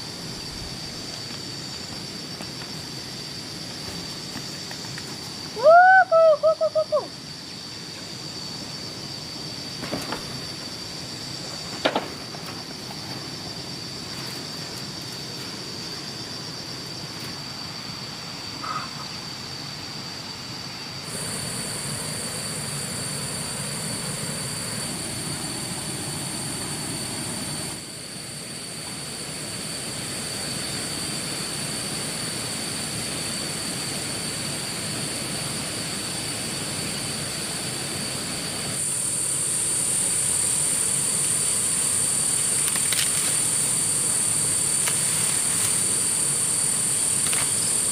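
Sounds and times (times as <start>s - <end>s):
insects chirring: 0.0s - 47.9s
outdoor background hiss: 0.0s - 47.9s.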